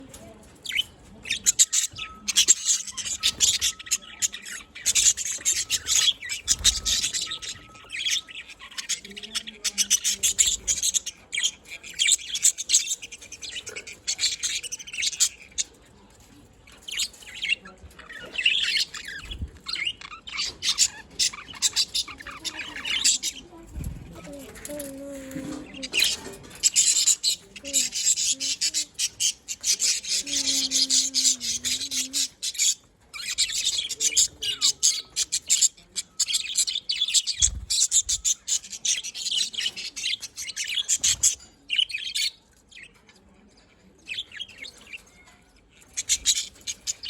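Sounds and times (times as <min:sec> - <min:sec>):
budgerigars chirping: 0:00.6 - 0:15.8, 0:16.7 - 0:23.6, 0:25.4 - 0:43.0, 0:44.0 - 0:45.2, 0:45.8 - 0:47.0.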